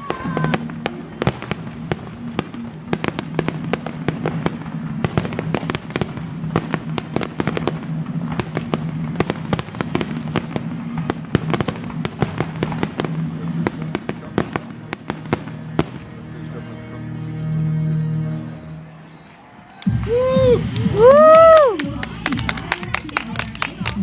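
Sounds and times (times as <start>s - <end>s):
fireworks bangs and crackles: 0.0s - 17.6s, 18.6s - 24.0s
music playing: 0.0s - 24.0s.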